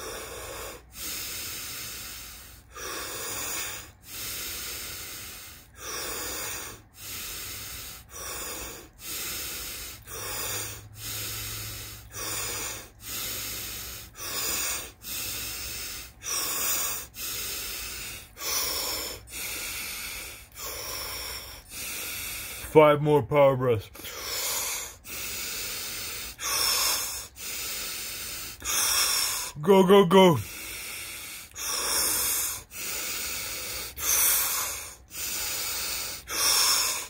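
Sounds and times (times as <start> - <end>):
man breathing through mouth: 0.0 - 22.7, 23.9 - 37.0.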